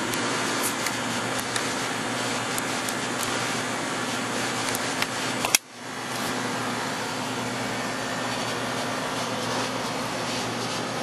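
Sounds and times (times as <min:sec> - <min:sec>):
air conditioner fan rushing: 0:00.0 - 0:11.0.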